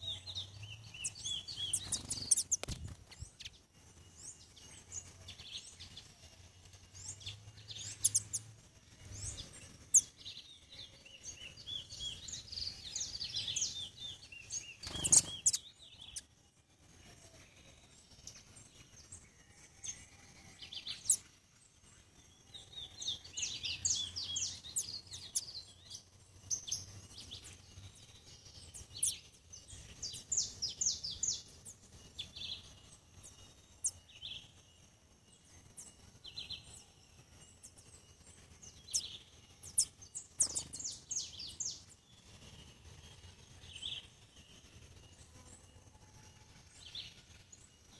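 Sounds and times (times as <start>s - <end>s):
small songbirds chirping: 0.0s - 47.9s.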